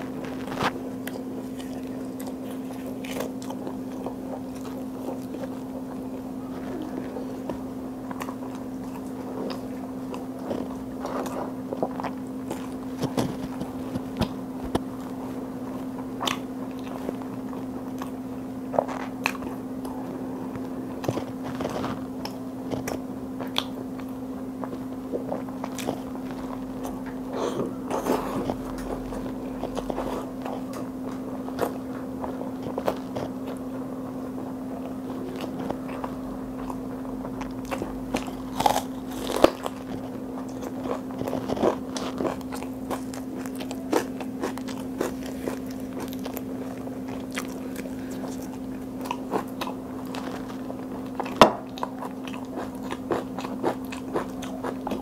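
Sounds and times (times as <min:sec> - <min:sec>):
steady low hum: 0:00.0 - 0:55.0
wet chewing: 0:00.0 - 0:55.0.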